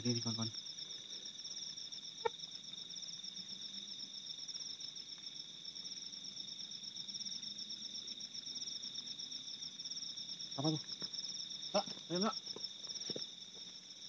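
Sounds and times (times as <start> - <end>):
crickets trilling: 0.0 - 14.0
pulsing insect song: 0.0 - 14.0.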